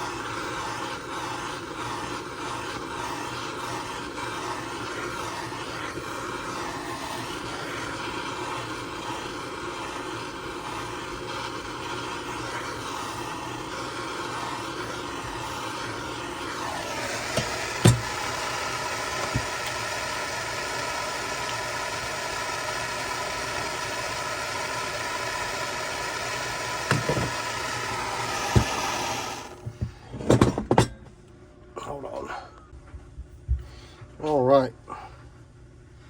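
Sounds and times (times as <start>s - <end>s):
heat gun whirring: 0.0s - 29.8s.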